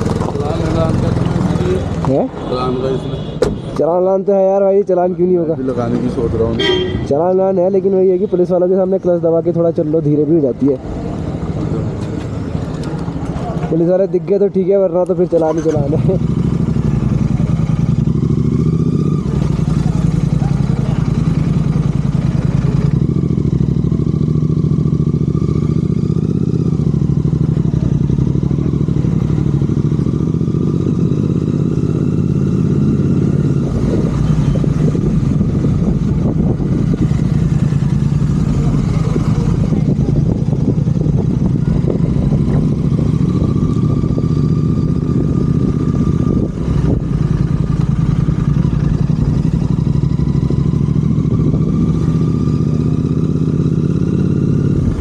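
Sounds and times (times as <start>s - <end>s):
motorcycle engine running loud: 0.0s - 3.0s, 3.9s - 55.0s.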